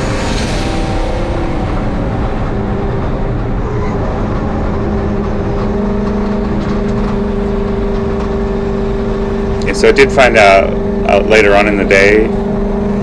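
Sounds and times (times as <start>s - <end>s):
turbocharged race truck engine: 0.0s - 13.0s.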